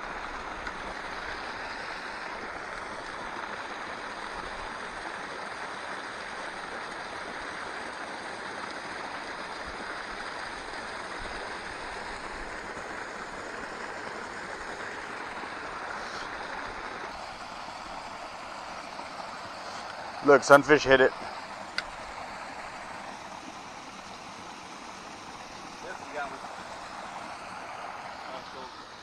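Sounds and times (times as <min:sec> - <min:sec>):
creek water rushing down cascade: 0:00.0 - 0:29.0.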